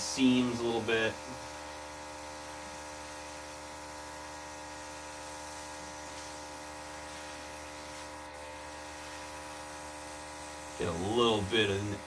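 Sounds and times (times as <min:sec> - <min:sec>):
airbrush spraying hiss: 0:00.0 - 0:12.0
compressor electric hum: 0:00.0 - 0:12.0.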